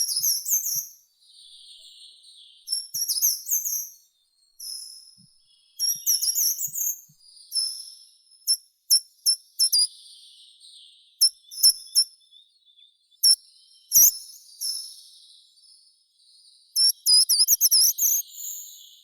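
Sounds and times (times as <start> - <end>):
songbirds chirping and whistling: 0.0 - 19.0.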